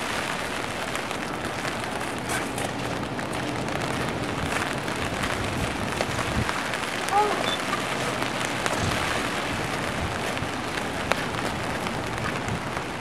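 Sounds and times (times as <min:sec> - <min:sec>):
rain pattering on a rooftop: 0:00.0 - 0:13.0.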